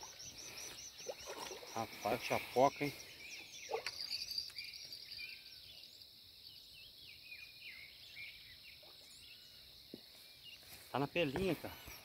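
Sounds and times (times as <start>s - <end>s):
birds chirping: 0.0s - 12.0s
insects droning: 0.0s - 12.0s.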